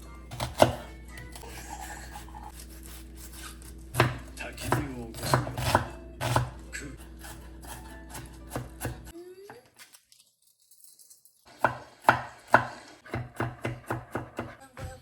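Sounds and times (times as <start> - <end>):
knife chopping on cutting board: 0.3 - 9.1, 11.6 - 15.0.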